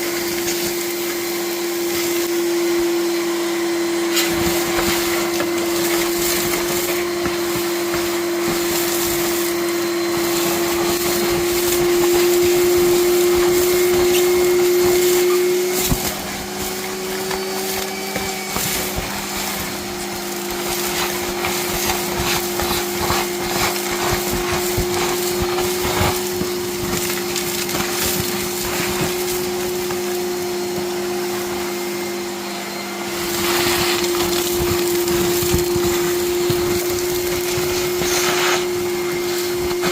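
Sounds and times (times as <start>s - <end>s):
vacuum running with a whine: 0.0s - 39.9s.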